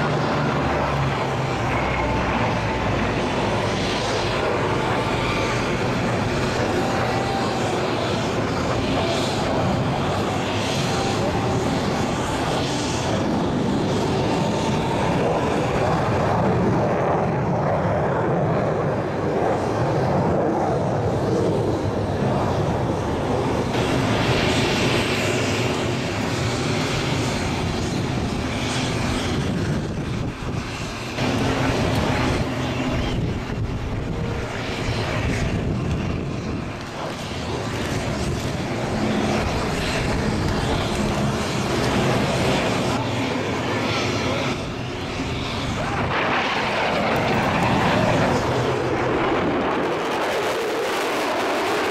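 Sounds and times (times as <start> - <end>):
jet noise: 0.0 - 51.9
propeller aircraft drone: 0.0 - 51.9.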